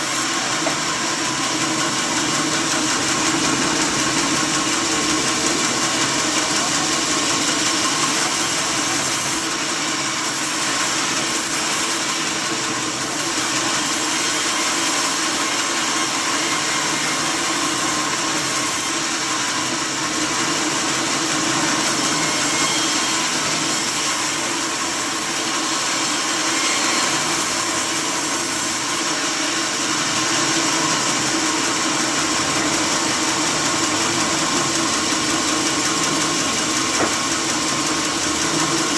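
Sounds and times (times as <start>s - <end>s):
sawmill saw machinery running: 0.0s - 38.9s.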